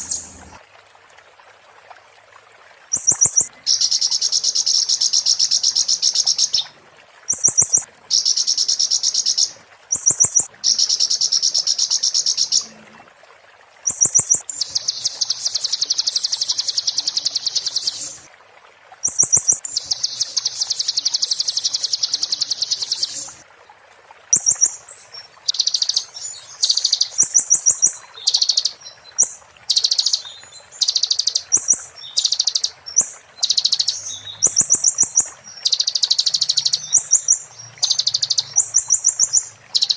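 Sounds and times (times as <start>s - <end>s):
songbird trilling: 0.0s - 0.5s, 2.9s - 6.7s, 7.3s - 12.7s, 13.8s - 18.3s, 19.0s - 23.4s, 25.5s - 39.9s.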